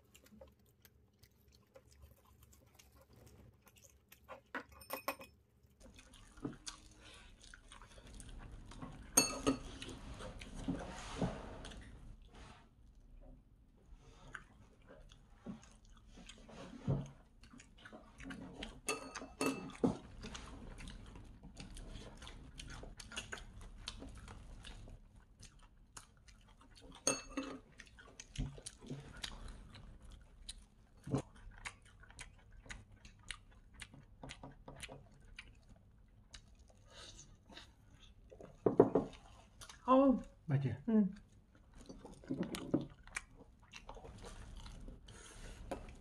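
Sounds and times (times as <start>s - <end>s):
crunchy fried chicken chewing: 0.0s - 4.8s, 5.4s - 12.3s, 14.1s - 39.9s, 41.2s - 46.0s.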